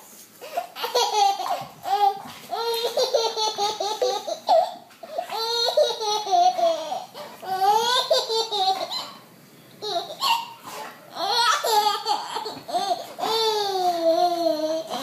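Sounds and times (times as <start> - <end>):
baby laughing: 0.4 - 9.2, 9.8 - 15.0.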